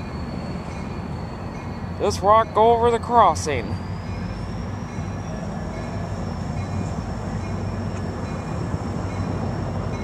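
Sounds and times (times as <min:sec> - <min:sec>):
distant train rumble: 0:00.0 - 0:10.0.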